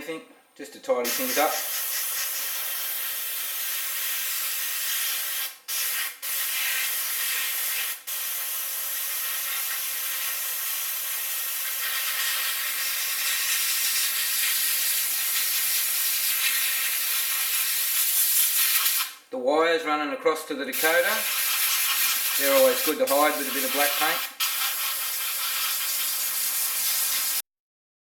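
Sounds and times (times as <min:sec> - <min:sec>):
airbrush spraying hiss: 0:01.1 - 0:19.2, 0:20.8 - 0:27.4.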